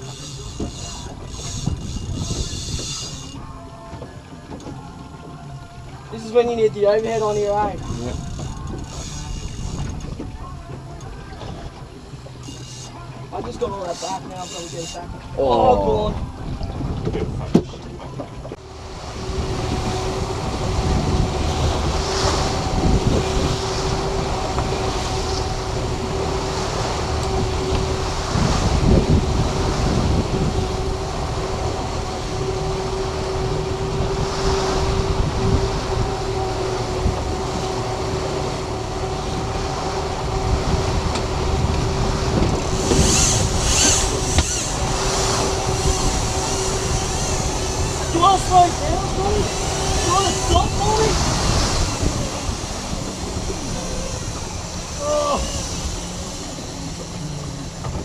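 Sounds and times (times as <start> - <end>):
boat motor running: 0.0 - 58.0
water rushing past hull: 0.0 - 58.0
wind buffeting microphone: 0.0 - 58.0.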